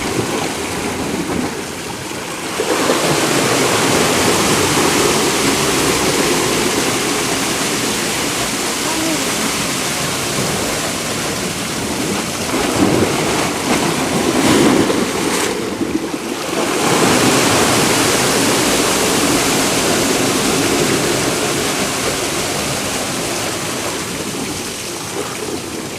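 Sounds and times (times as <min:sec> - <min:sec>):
sea surf washing over rocks: 0:00.0 - 0:25.9.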